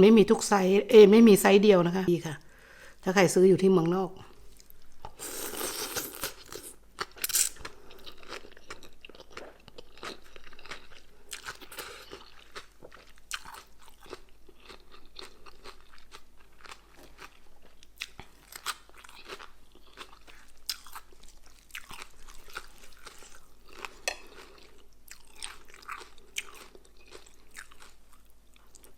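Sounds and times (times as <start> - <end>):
person crunching food: 4.5 - 28.9.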